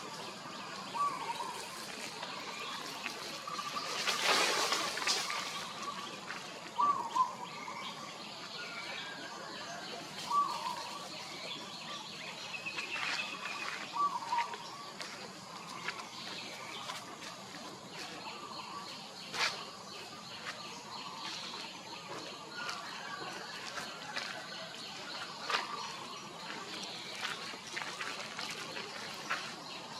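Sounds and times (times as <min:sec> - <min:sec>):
outdoor ambience: 0:00.0 - 0:29.9.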